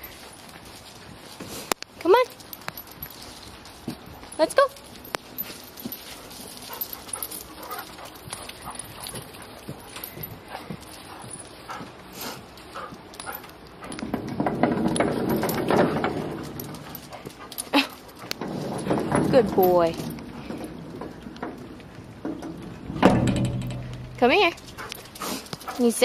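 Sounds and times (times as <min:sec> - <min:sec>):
rustling: 0:00.0 - 0:26.0.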